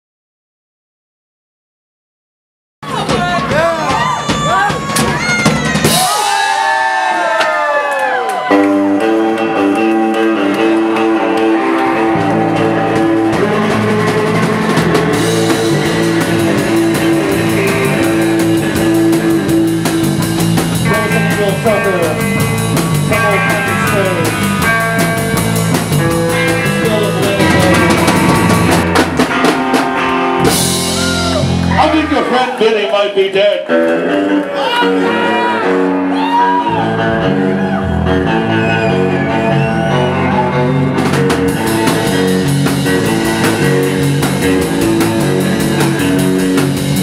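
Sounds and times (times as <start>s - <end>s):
drum kit: 2.8s - 32.3s, 36.1s - 47.0s
electric guitars: 2.9s - 32.8s, 33.5s - 47.0s.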